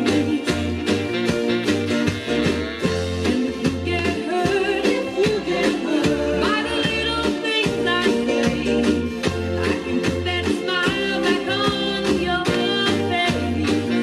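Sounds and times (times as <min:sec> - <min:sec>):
soul disco song from vinyl record: 0:00.0 - 0:14.0.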